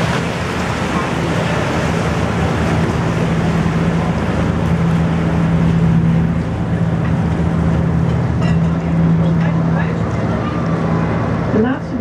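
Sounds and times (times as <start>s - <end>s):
boat engine humming: 0.0s - 12.0s
steady rushing noise: 0.0s - 12.0s.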